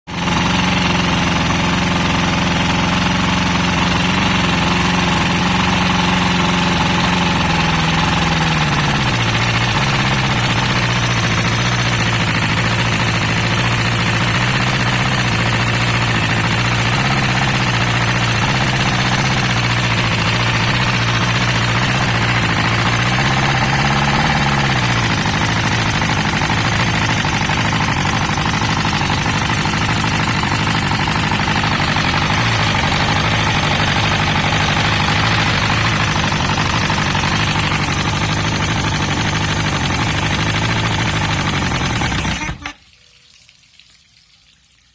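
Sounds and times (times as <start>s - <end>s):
outboard motor running: 0.0s - 42.8s.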